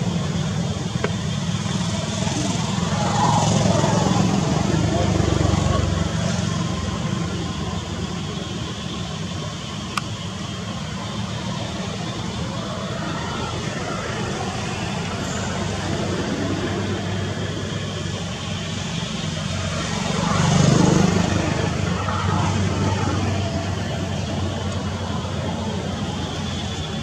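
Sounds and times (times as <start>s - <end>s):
low engine-like hum: 0.0s - 27.0s.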